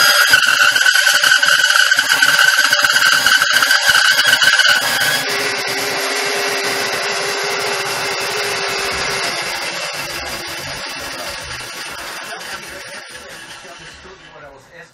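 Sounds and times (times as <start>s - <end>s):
bandsaw cutting wood: 0.0s - 14.6s.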